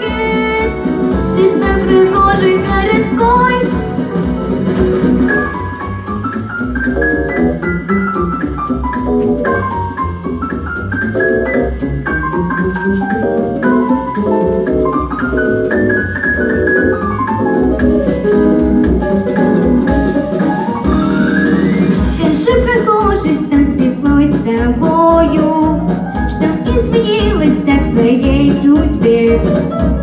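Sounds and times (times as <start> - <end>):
instrumental music: 0.0 - 30.0.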